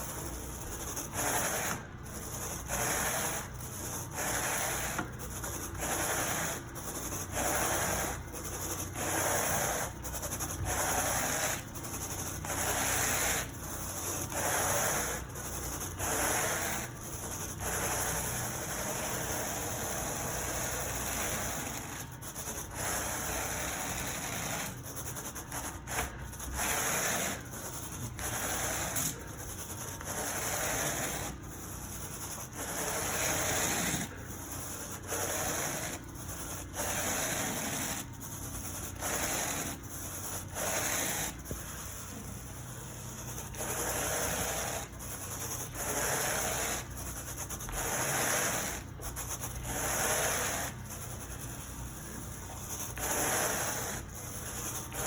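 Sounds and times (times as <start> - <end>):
carpet tool scraping carpet: 0.0 - 55.0.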